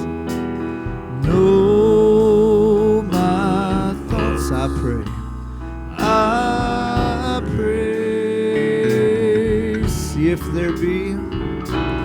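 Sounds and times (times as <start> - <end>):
people singing a hymn: 0.0 - 5.1, 5.9 - 12.0
acoustic guitar: 0.0 - 12.0
keyboard: 0.0 - 12.0.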